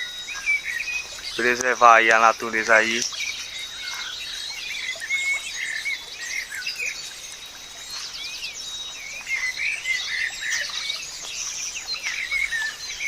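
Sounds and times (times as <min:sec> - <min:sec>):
birds chirping and singing: 0:00.0 - 0:13.0
high insect tone: 0:00.0 - 0:13.0.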